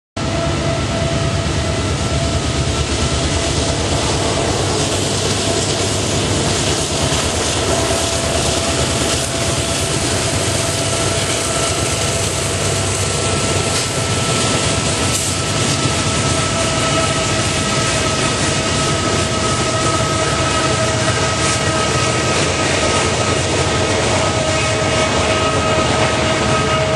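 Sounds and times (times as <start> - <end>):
freight train rumbling: 0.2 - 26.9
high whine: 0.2 - 26.9.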